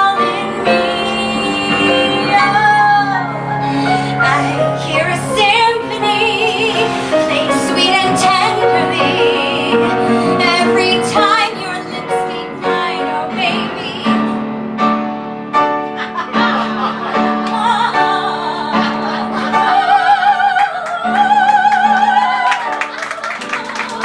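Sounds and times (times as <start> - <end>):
woman singing: 0.0 - 14.4, 17.4 - 24.0
piano accompaniment: 0.0 - 24.0.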